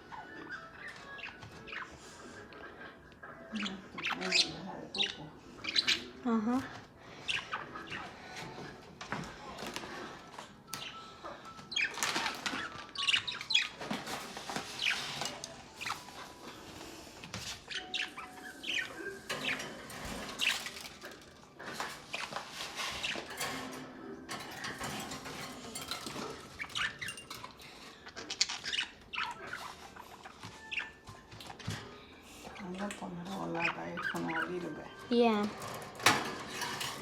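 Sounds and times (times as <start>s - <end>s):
pet bird chirping: 0.0s - 37.0s
wings fluttering and rustling: 6.6s - 37.0s.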